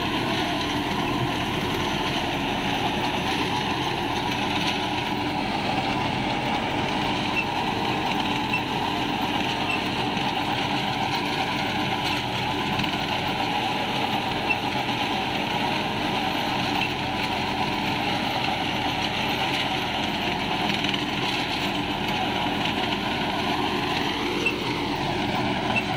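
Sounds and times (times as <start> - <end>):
seeder rotor churning soil: 0.0 - 25.9
tractor diesel engine under load: 0.0 - 25.9.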